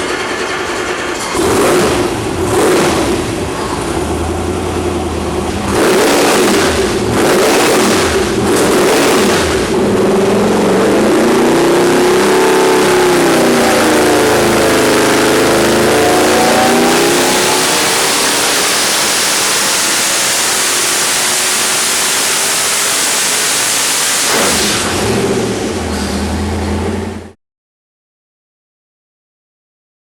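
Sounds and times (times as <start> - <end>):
engine revving: 1.1 - 27.4.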